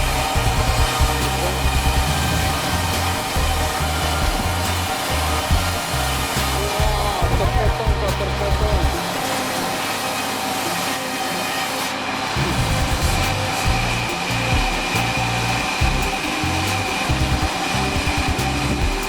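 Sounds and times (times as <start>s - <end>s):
noisy hiss: 0.0s - 19.0s
sawmill saw whine: 0.0s - 19.0s.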